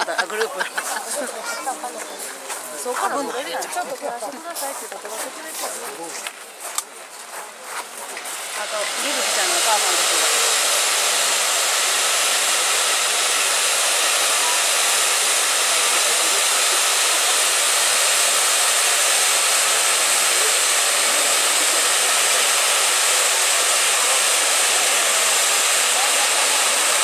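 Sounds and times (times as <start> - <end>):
fireworks hissing sparks: 0.0 - 27.0.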